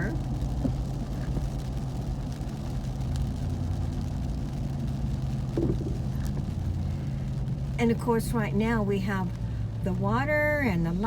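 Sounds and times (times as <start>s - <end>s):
pickup engine droning: 0.0s - 11.0s.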